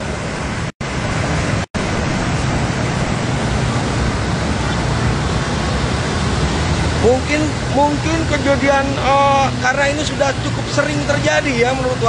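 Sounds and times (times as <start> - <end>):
motorbikes riding through water: 0.0 - 12.0.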